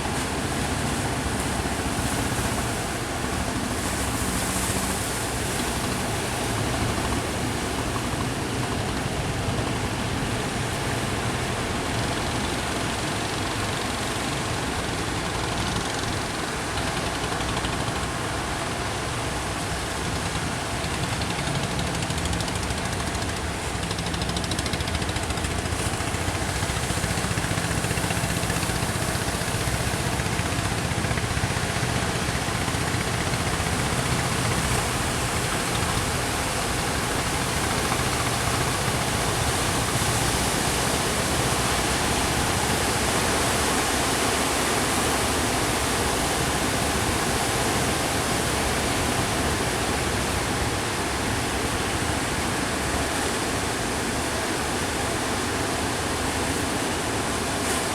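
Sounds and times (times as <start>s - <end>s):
boat engine running low: 0.0s - 57.9s
surf rushing: 0.0s - 57.9s
wind: 0.0s - 57.9s.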